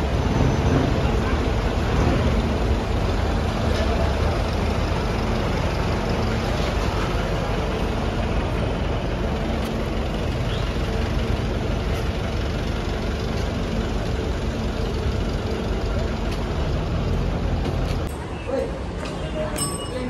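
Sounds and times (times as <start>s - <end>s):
large vehicle engine idling: 0.0s - 20.0s.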